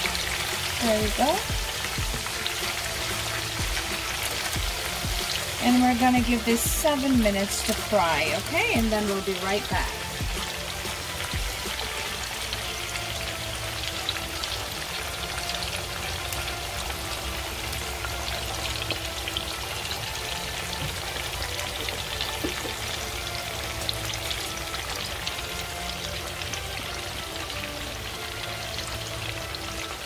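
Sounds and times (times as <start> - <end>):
chicken wings sizzling in hot oil: 0.0 - 30.0.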